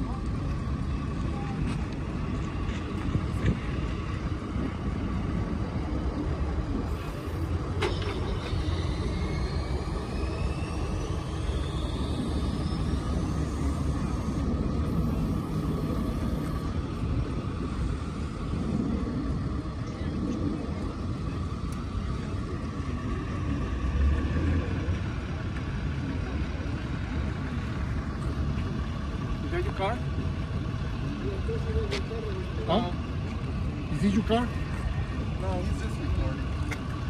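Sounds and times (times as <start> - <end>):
faint rising whine: 0.0 - 37.0
idling vehicles and traffic rumble: 0.0 - 37.0.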